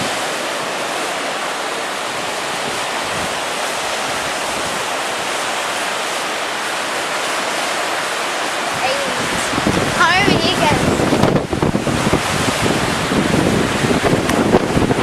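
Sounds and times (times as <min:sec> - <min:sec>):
strong wind: 0:00.0 - 0:15.0
surf: 0:00.0 - 0:15.0.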